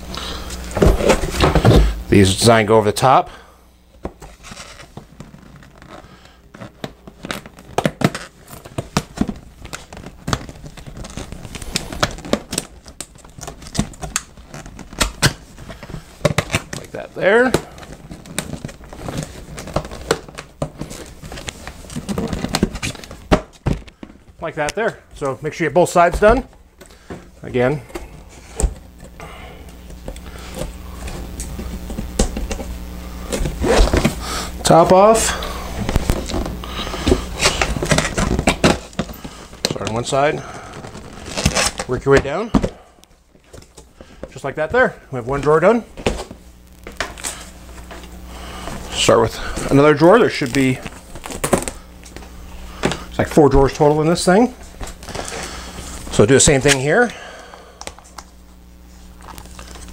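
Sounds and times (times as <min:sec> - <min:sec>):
steady low hum: 0:00.0 - 0:59.9
panels clicking and crinkling: 0:04.0 - 0:29.2, 0:29.8 - 0:57.1.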